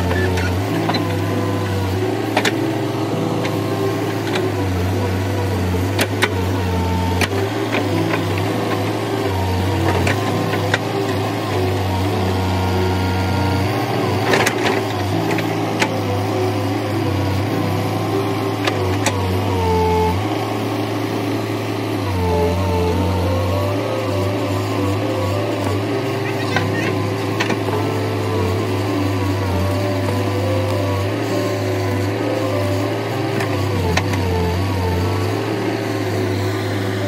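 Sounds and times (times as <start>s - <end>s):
backhoe engine running: 0.0s - 37.0s
short whining tones: 0.0s - 37.0s.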